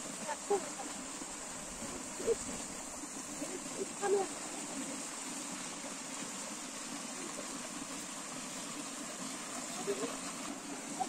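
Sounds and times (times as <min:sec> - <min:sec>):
water rushing down channel: 0:00.0 - 0:11.0.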